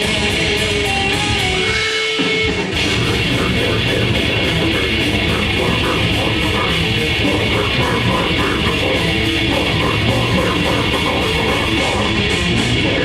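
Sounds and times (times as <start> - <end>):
live grindcore band playing: 0.0 - 13.0.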